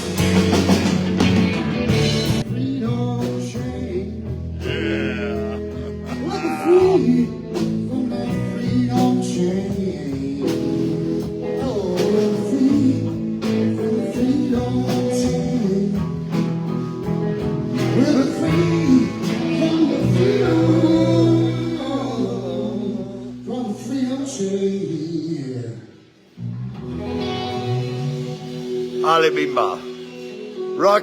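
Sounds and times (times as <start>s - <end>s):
blues band playing: 0.0s - 24.7s, 26.4s - 31.0s.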